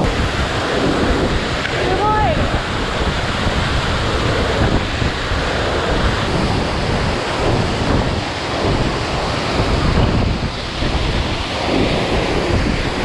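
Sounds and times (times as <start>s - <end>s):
rushing mountain stream: 0.0s - 13.0s
wind buffeting microphone: 0.0s - 13.0s.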